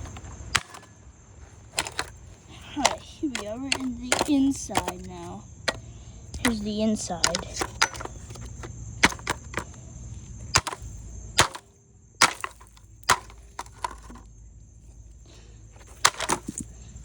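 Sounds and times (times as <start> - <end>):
hard plastic parts knocking: 0.0 - 9.8, 10.4 - 14.3, 15.8 - 17.0.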